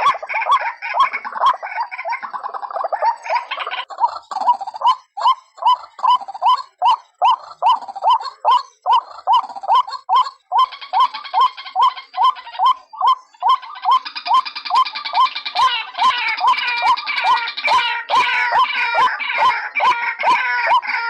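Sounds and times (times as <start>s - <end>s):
waterhen calling: 0.0s - 21.0s.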